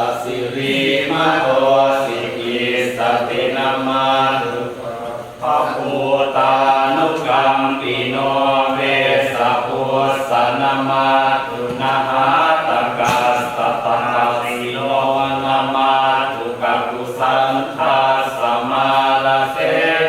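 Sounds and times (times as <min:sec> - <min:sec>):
chanting: 0:00.0 - 0:20.0.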